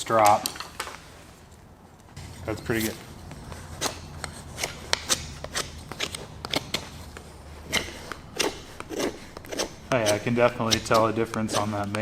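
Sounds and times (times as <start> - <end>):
knife carving wood: 2.2 - 12.0.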